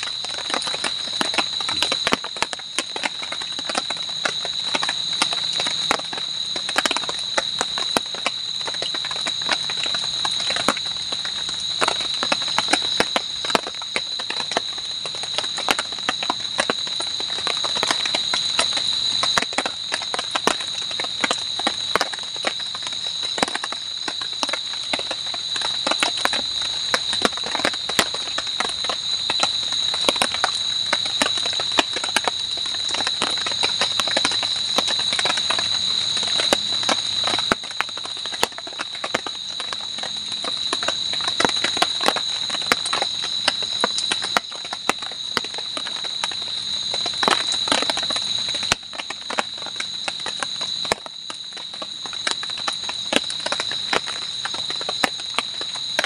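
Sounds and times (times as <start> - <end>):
night insects chorus: 0.0 - 56.0.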